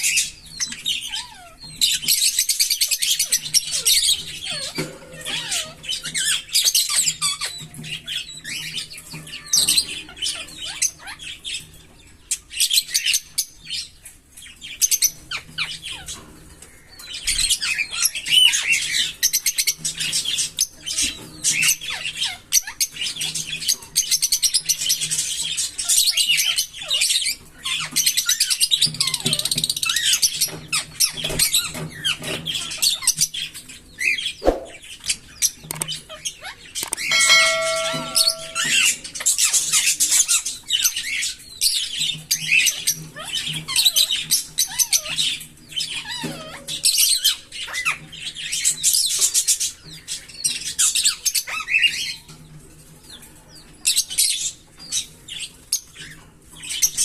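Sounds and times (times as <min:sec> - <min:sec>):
lovebirds chirping and chattering: 0:00.0 - 0:57.0.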